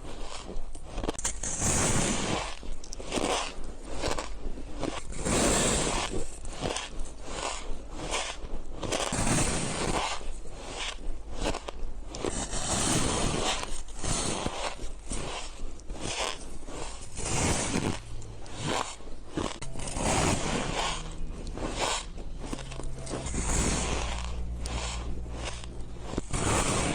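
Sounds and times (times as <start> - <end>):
chewing shaved ice crunches: 0.0 - 26.9.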